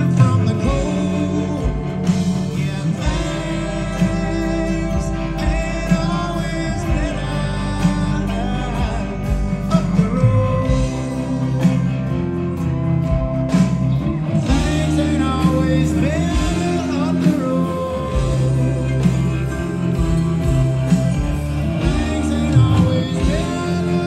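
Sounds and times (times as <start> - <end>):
man singing lead vocal: 0.0 - 12.4, 14.3 - 24.0
live rock band playing: 0.0 - 24.0.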